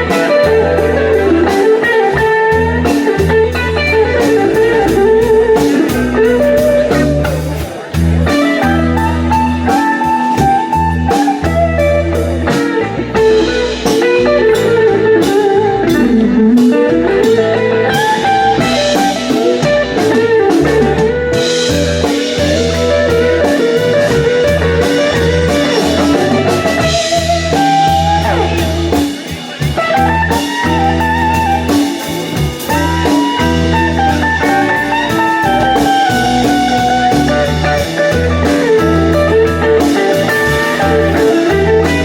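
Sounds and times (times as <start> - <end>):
bass and drums: 0.0 - 42.0
blues guitar lead: 0.0 - 42.0.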